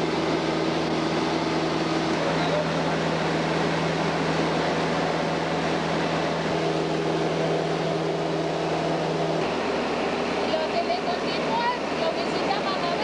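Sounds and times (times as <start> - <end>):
air noise: 0.0 - 13.0
light aircraft engine drone: 0.0 - 13.0.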